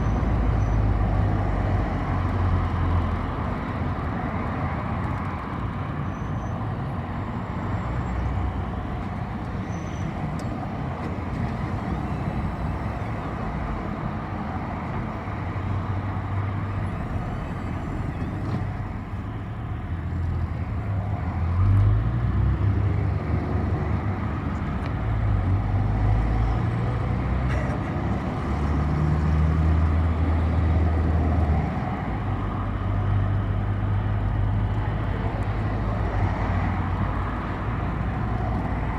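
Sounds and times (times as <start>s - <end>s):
bus engine drone: 0.0s - 38.9s
road noise: 0.0s - 38.9s.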